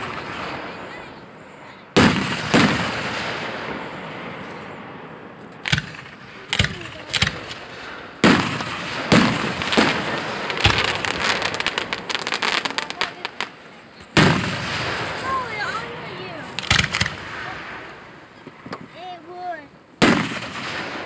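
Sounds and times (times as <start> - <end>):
firework booms: 0.0 - 21.0
firework crackling: 0.0 - 21.0.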